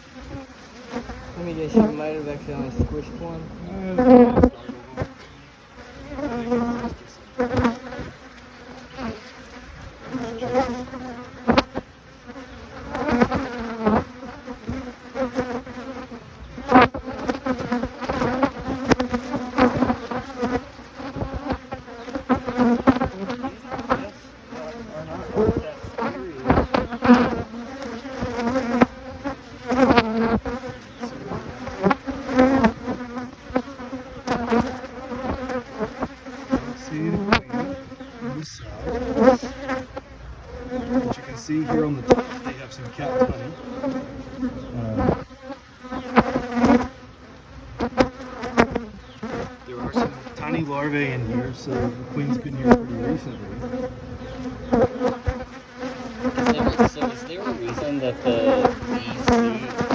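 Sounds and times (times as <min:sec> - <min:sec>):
honeybees buzzing: 0:00.0 - 0:59.9.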